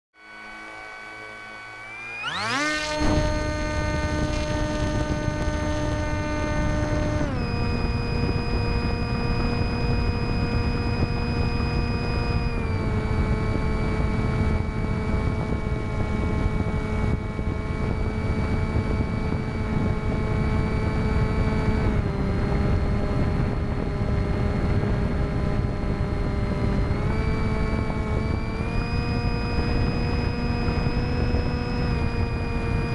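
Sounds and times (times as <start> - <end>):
electric motor whine: 0.2 - 32.9
wind rush on microphone: 2.2 - 32.9.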